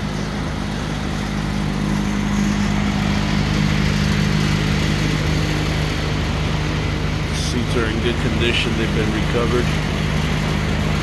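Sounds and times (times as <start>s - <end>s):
continuous rushing noise: 0.0s - 11.0s
low mechanical hum: 0.0s - 11.0s.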